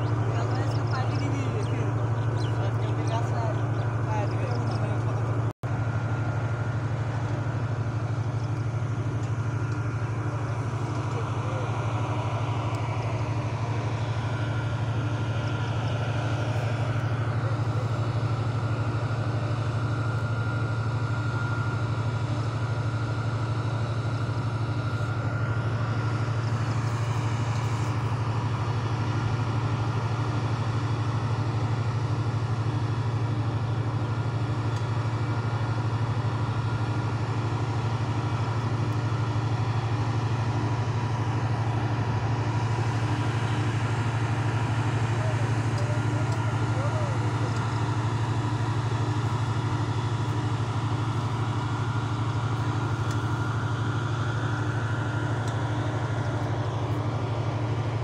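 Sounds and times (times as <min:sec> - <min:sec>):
faint steady whines: 0:00.0 - 0:58.0
industrial machinery humming: 0:00.0 - 0:58.0.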